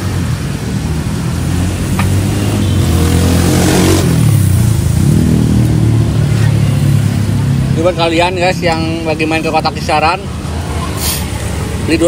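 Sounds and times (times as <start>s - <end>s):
vehicle rushing past: 0.0s - 12.0s.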